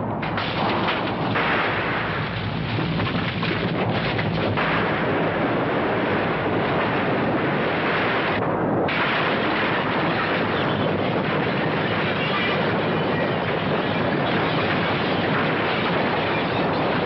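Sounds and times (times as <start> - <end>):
crashes: 0.0 - 17.0
earthquake rumble: 0.0 - 17.0.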